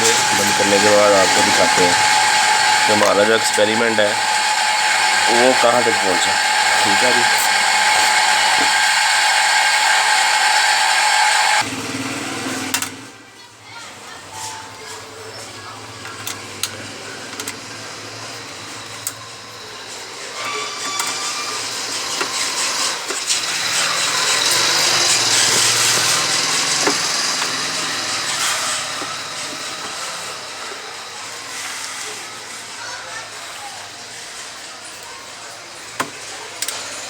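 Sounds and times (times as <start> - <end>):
motor running: 0.0 - 13.0, 15.4 - 32.8.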